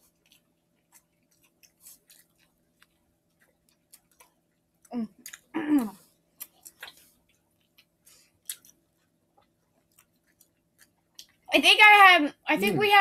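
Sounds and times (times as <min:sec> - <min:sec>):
people chewing burger: 0:00.0 - 0:11.5.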